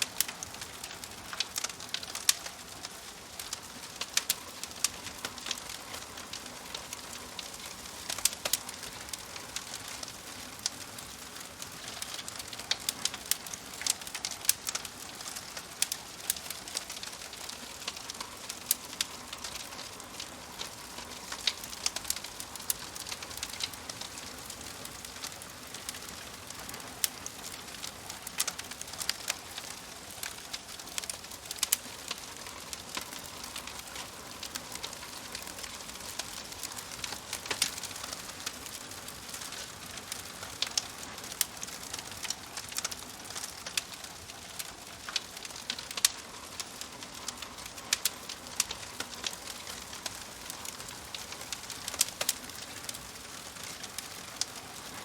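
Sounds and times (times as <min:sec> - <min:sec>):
wood fire crackling in stove: 0:00.0 - 0:55.0.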